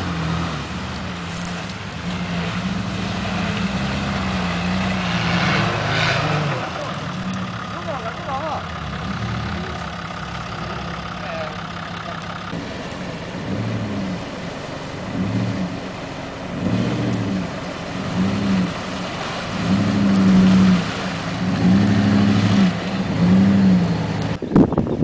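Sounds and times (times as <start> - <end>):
car engine revving: 0.0 - 24.5.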